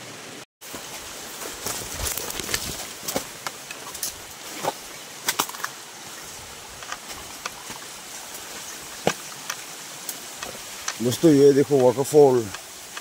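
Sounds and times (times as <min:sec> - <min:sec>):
small waterfall hissing: 0:00.0 - 0:13.0
footsteps on stones and leaves: 0:00.6 - 0:13.0.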